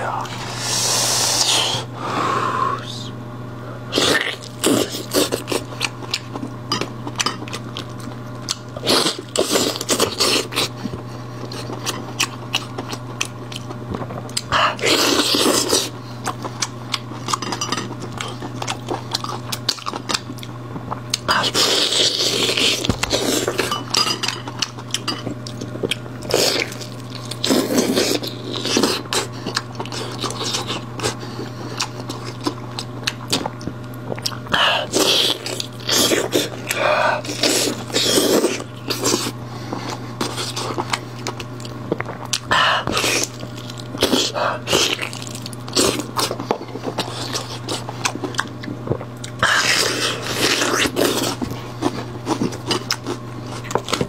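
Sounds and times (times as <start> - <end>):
steady low hum: 0.0 - 54.0
wet chewing and lip-smacking: 4.0 - 23.8, 24.4 - 54.0.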